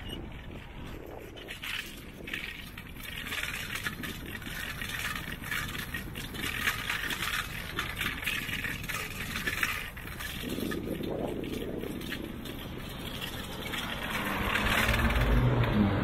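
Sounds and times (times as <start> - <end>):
bicycle rattling: 0.0 - 16.0
road rumble and passing air: 0.0 - 16.0.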